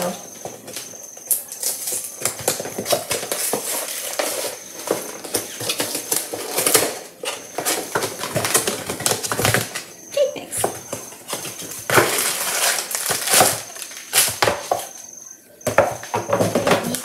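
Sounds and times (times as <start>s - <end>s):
cardboard box and packet crackling: 0.6s - 9.9s, 10.6s - 15.0s.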